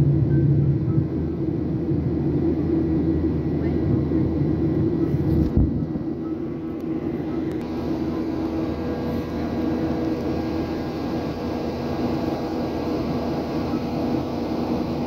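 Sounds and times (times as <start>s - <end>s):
engine and airflow rush: 0.0s - 15.0s
low steady hum: 0.0s - 15.0s.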